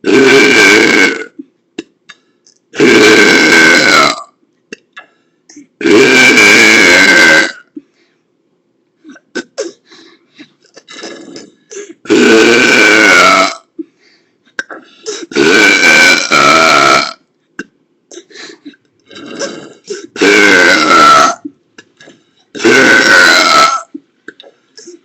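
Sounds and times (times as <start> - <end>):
person burping: 0.0 - 7.9, 10.8 - 13.8, 14.6 - 18.3, 19.0 - 25.0.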